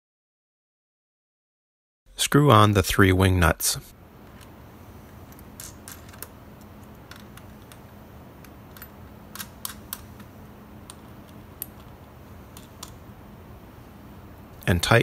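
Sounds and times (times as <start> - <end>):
faint low hum: 2.1 - 15.0.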